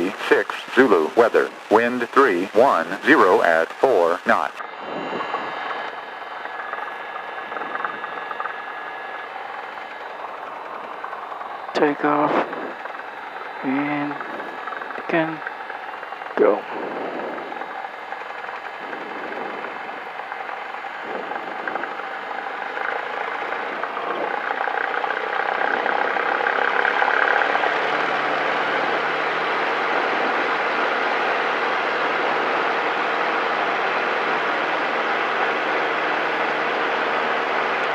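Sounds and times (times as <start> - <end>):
aircraft engine idling in cabin: 0.0 - 37.9.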